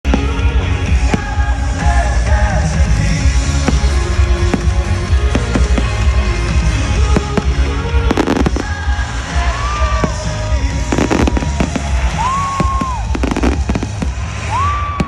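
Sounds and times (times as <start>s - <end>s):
music with heavy bass: 0.0s - 15.0s
fireworks bursting and crackling: 0.1s - 15.0s.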